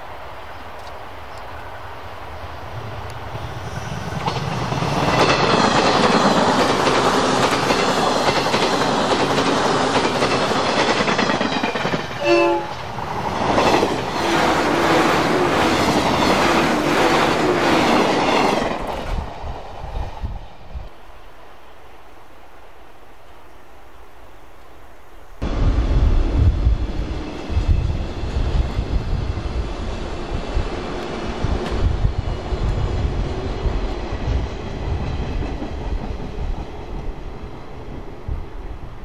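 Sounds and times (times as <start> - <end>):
electric train passing at speed: 0.0 - 39.0.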